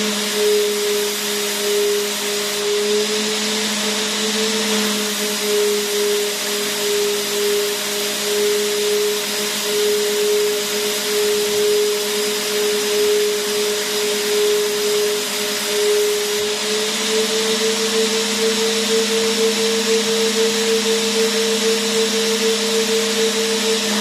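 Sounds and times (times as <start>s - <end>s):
vacuum cleaner motor running: 0.0s - 24.0s.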